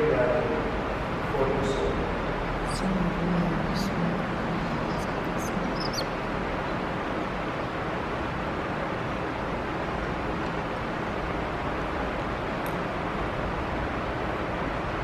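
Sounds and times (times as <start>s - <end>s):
room noise hiss: 0.0s - 15.0s.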